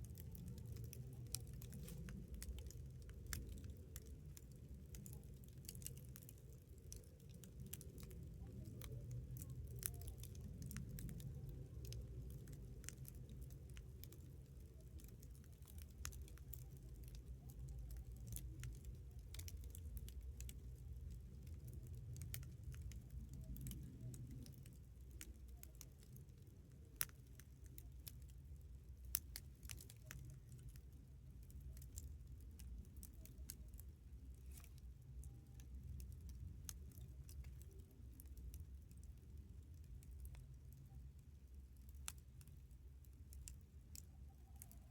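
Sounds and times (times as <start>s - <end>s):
low steady rumble: 0.0s - 44.9s
wood fire crackling: 0.0s - 44.9s.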